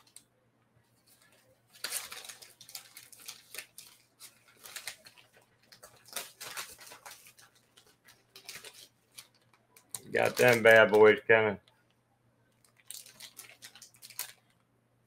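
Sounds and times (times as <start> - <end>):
faint low electrical hum: 0.0 - 15.0.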